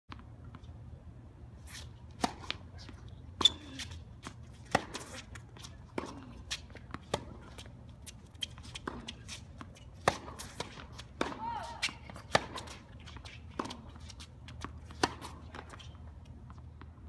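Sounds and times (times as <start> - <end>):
racket hitting tennis ball: 1.6 - 16.0
tennis ball bouncing: 1.7 - 17.0.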